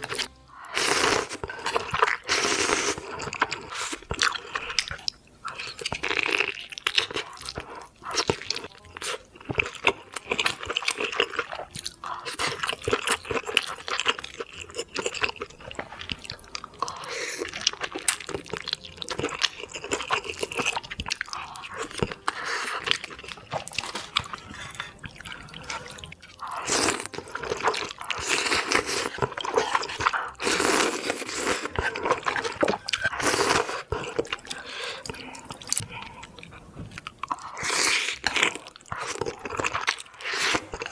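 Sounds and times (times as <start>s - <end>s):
chewing and crunching: 0.0s - 40.9s
noodle slurping: 0.0s - 40.9s.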